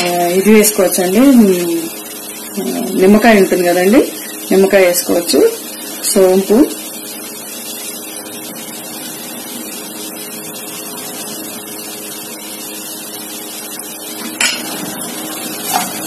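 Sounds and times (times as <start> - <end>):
stuffing frying in a pan: 0.0 - 16.0.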